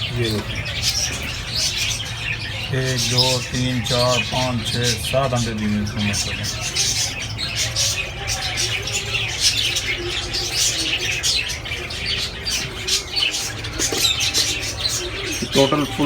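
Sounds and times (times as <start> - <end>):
parrots chirping and chattering: 0.0 - 16.0.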